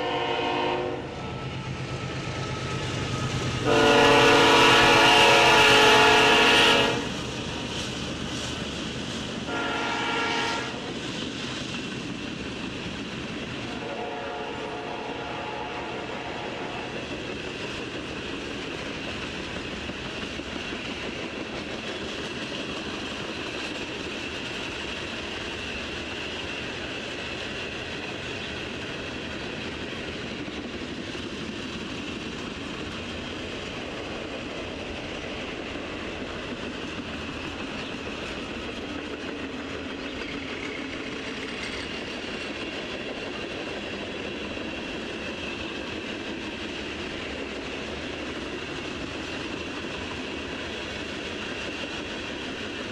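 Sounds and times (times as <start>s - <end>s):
steel wheels rumbling on rail: 0.0s - 52.9s.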